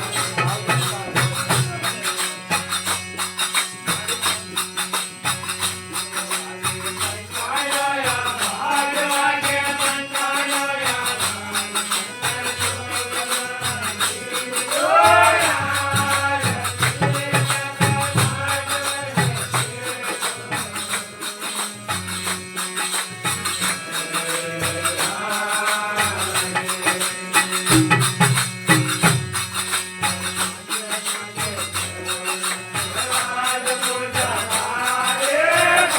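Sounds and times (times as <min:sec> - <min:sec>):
jingling percussion: 0:00.0 - 0:35.9.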